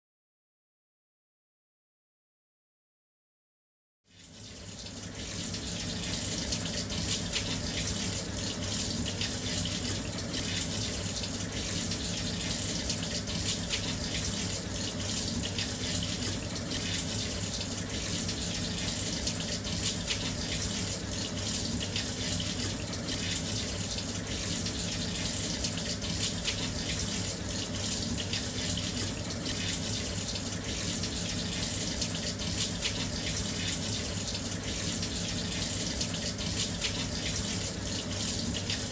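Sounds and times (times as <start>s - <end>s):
water pouring into washing machine: 4.1s - 38.9s.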